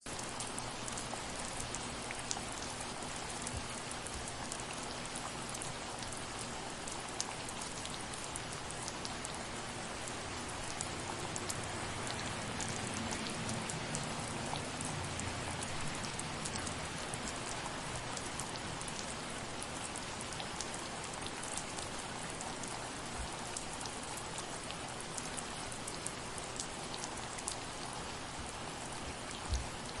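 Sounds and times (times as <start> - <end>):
light rain falling: 0.0 - 30.0.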